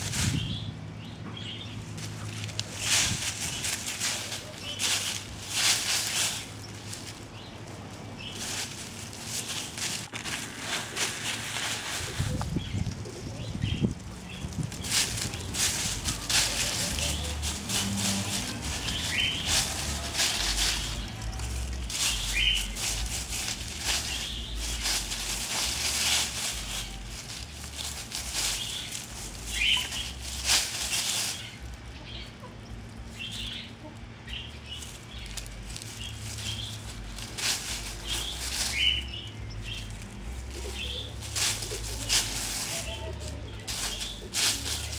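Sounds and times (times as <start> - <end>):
chickens scratching in dry leaves: 0.0 - 44.9.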